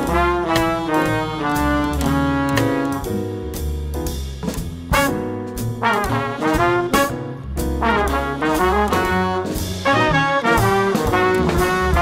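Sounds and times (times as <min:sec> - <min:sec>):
brass horns playing phrases: 0:00.0 - 0:03.2, 0:04.9 - 0:12.0
bass line: 0:00.0 - 0:12.0
jazzy instrumental music: 0:00.0 - 0:12.0.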